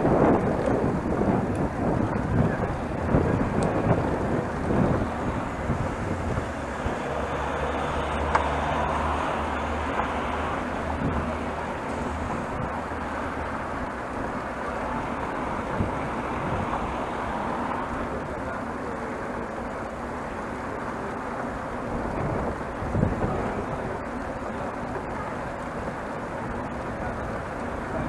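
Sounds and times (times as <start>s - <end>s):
bus engine hum: 0.0s - 28.0s
rush of wind: 0.0s - 28.0s
tyres on pavement: 0.0s - 28.0s.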